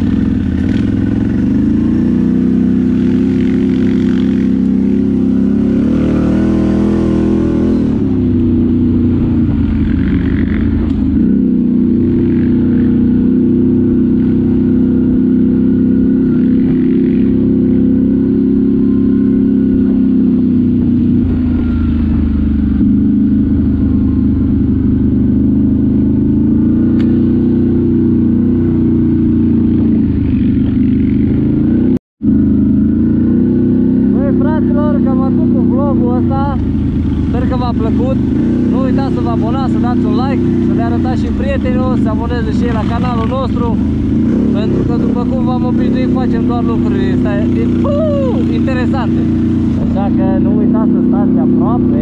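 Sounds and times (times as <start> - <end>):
atv engine running: 0.0 - 52.0.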